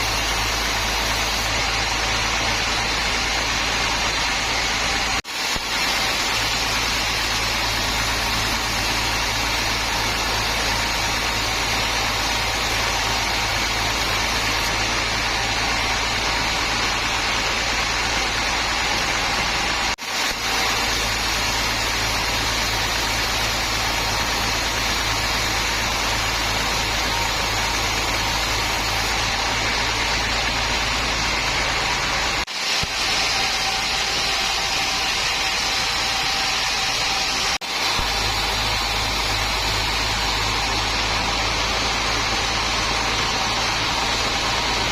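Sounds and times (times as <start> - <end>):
hiss: 0.0 - 44.9
sawmill machinery drone: 0.0 - 44.9.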